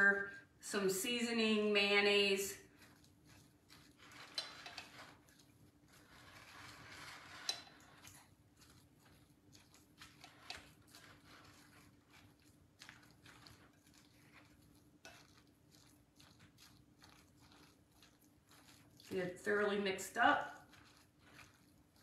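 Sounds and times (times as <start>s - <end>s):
utensil stirring wet mixture: 0.7s - 22.0s.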